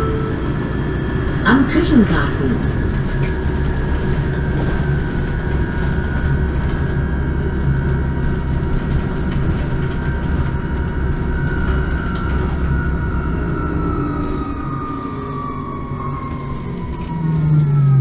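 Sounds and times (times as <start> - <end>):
high whine: 0.0 - 16.3
bus engine low rumble: 0.0 - 18.0.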